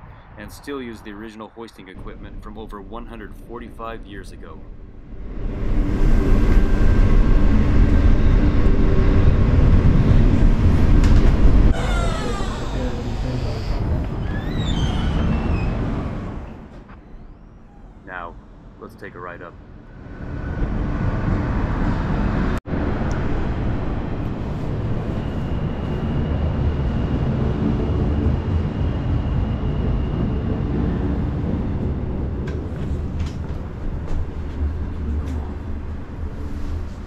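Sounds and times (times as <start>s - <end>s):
funicular car rumbling on rails: 4.7s - 18.1s, 20.0s - 37.0s.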